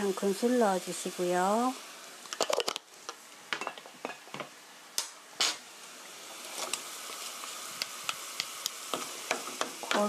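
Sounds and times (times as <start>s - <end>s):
sauce sizzling in pan: 0.0s - 10.0s.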